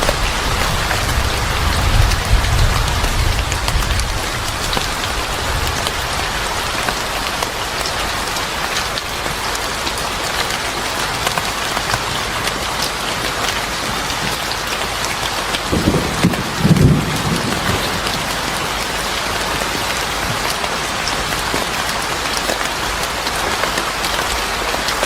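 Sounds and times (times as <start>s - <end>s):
heavy rain on a hard surface: 0.0s - 25.0s.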